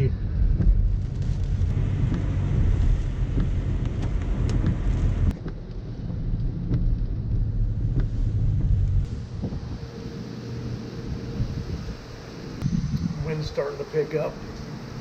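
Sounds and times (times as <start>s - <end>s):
road and wind rumble: 0.0s - 15.0s.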